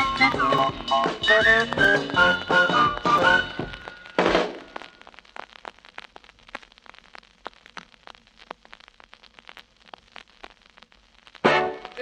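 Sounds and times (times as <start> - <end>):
vinyl surface clicks and pops: 0.0 - 10.9.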